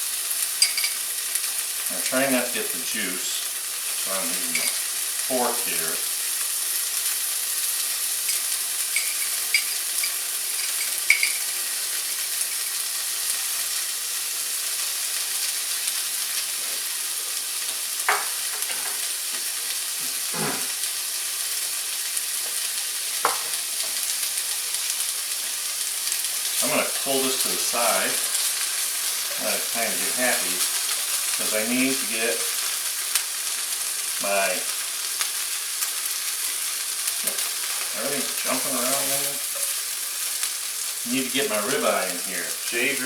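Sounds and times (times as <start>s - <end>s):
vegetables frying with high sizzle: 0.0s - 43.0s.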